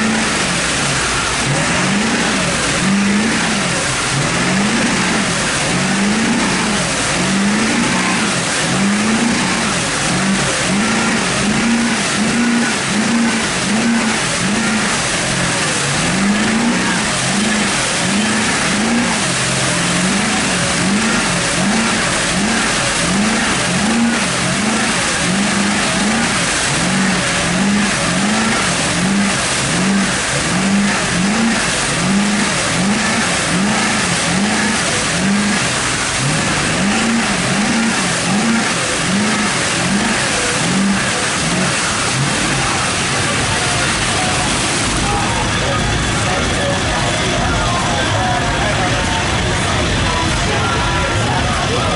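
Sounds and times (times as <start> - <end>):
diesel truck engine revving: 0.0 - 51.9
steady wash of noise: 0.0 - 51.9.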